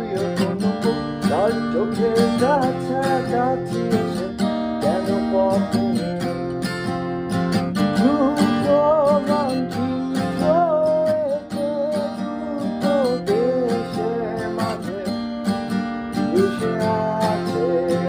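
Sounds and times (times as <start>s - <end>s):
man singing: 0.0s - 6.5s, 7.8s - 15.3s, 16.2s - 18.0s
acoustic guitar strumming: 0.0s - 18.0s.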